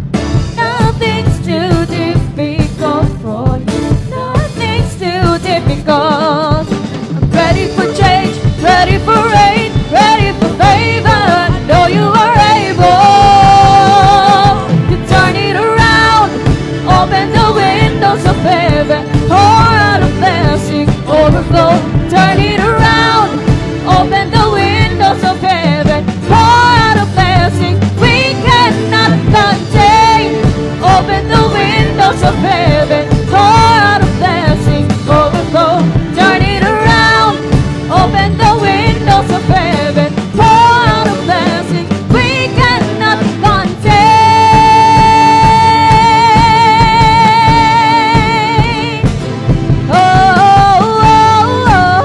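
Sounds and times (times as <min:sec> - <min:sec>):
band with drum kit: 0:00.0 - 0:52.0
woman singing: 0:00.5 - 0:49.2, 0:49.8 - 0:52.0.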